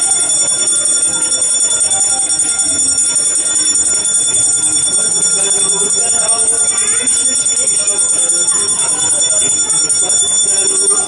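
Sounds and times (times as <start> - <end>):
handbell ringing rapidly: 0.0 - 11.0.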